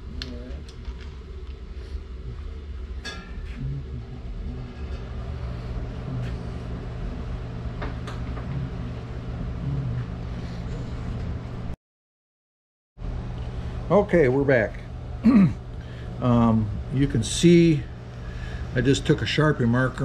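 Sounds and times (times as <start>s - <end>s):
low mechanical hum: 0.0s - 11.8s, 13.0s - 20.0s.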